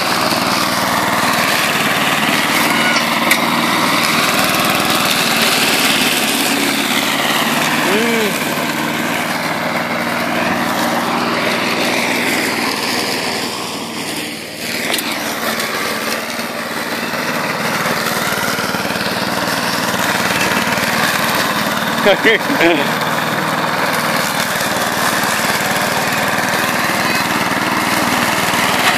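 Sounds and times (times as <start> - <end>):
lawn mower engine cutting grass: 0.0 - 28.9.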